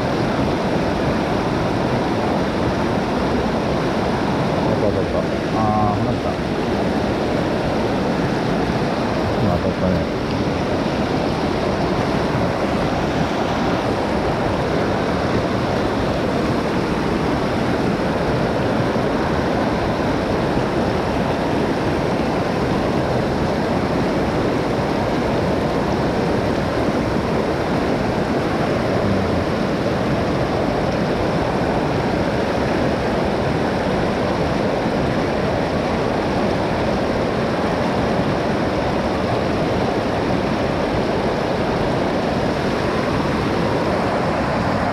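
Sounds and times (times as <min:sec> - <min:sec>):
mountain stream water rushing: 0:00.0 - 0:44.9.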